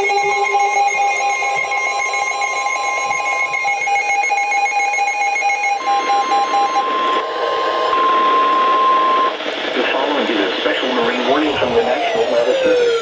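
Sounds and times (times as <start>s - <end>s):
pulsing beeping alarm: 0.0s - 9.4s, 11.0s - 13.0s
steady alarm tone: 0.0s - 9.7s, 10.9s - 13.0s.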